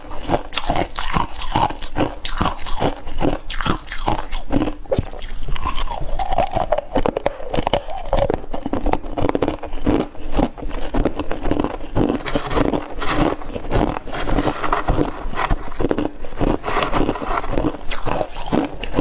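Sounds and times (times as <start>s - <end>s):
person crunching ice: 0.0s - 19.0s.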